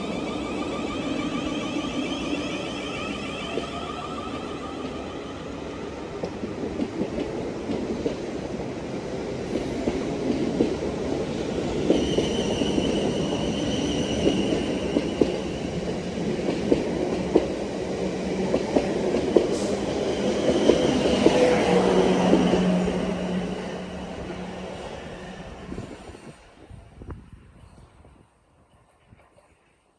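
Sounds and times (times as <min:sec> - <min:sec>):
train rumbling past: 0:00.0 - 0:29.6.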